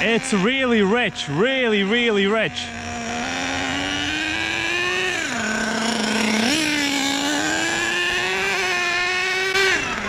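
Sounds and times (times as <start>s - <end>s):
nitro engine running loudly: 0.0s - 10.0s.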